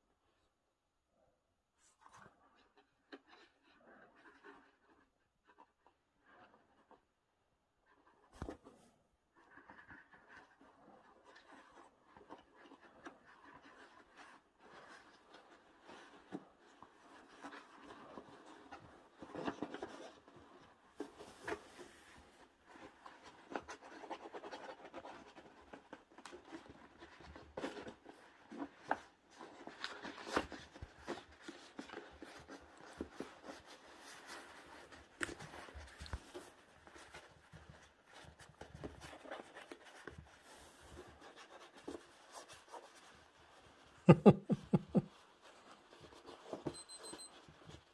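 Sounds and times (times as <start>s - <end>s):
kittens scratching paper pages: 1.8s - 7.1s, 7.8s - 47.9s.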